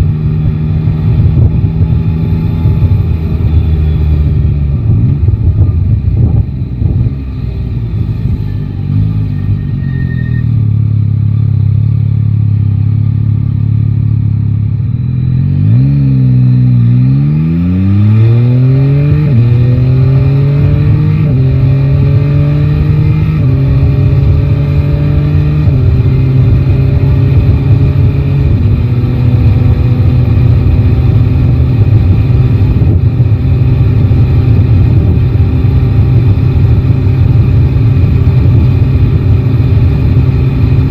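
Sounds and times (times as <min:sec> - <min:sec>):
motorcycle accelerating through gears: 0:00.0 - 0:40.9.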